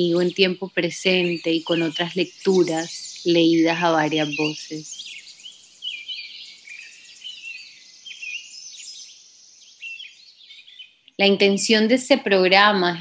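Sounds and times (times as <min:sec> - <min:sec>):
steady high hiss: 0:00.0 - 0:10.6
birds chirping: 0:00.0 - 0:13.0.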